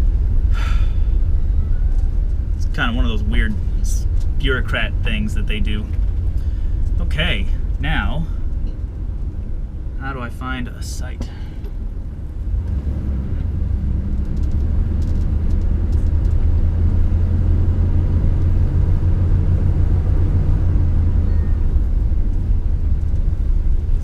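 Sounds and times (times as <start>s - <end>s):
camper van engine and road rumble: 0.0s - 24.0s.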